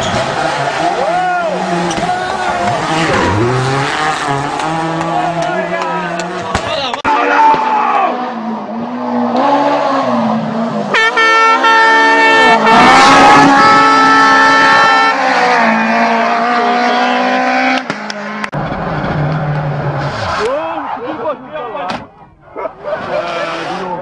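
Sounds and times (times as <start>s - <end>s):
rally car engine at high revs: 0.0s - 6.7s, 7.6s - 20.5s, 22.6s - 24.0s
car at full throttle: 0.0s - 24.0s.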